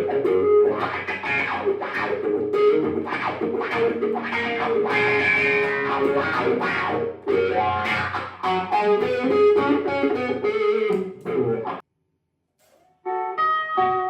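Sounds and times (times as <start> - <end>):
electric guitar through an amp: 0.0 - 11.8, 13.1 - 14.0.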